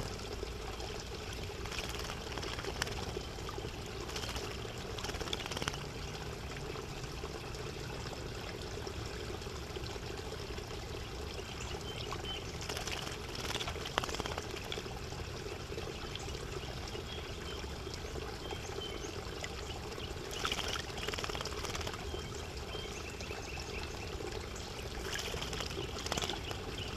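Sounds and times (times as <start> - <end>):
trickle of running water: 0.0 - 26.9.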